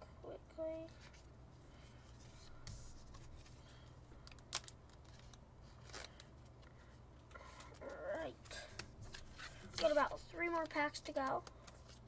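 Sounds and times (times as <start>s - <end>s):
trading cards rustling into sleeves: 0.8s - 12.0s.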